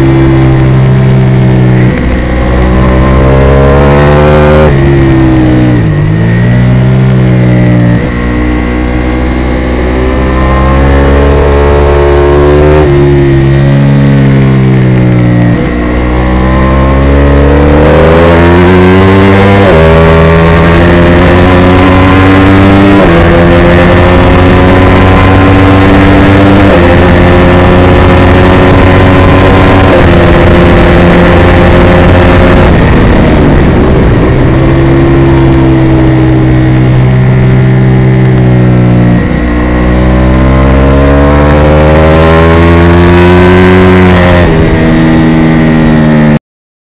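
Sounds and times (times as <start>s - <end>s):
motorcycle engine revving at speed: 0.0s - 46.4s.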